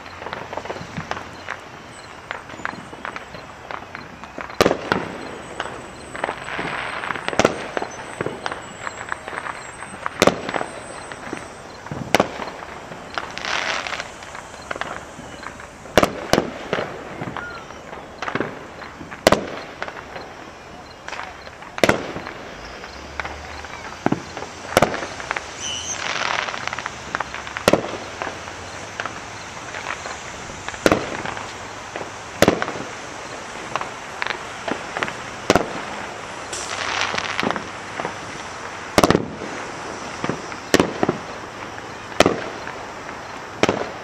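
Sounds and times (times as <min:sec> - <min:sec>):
distant fireworks booming: 0:00.0 - 0:44.0
fireworks crackle: 0:00.0 - 0:44.0.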